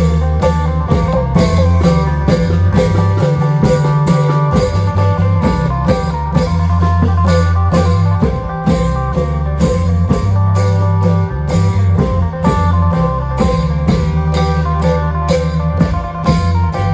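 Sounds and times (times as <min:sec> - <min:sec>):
amplified plucked-string melody: 0:00.0 - 0:16.9
long drums beating: 0:00.0 - 0:16.9
sustained bass line: 0:00.0 - 0:16.9.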